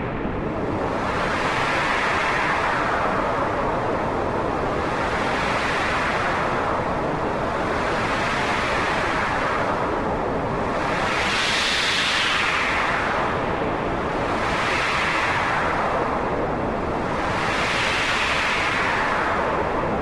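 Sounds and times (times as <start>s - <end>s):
wind blowing in gusts: 0.0s - 20.0s.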